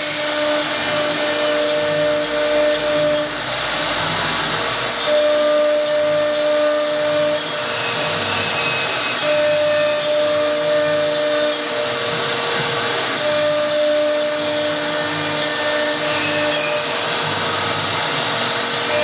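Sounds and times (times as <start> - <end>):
wood router cutting wood: 0.0 - 19.0.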